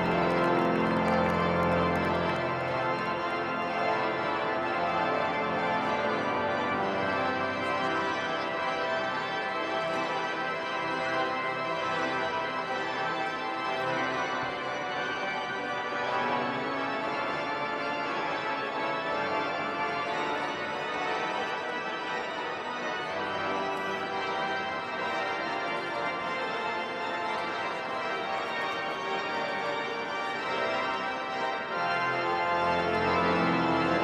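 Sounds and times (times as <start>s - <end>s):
pipe organ playing sustained chords: 0.0s - 34.0s.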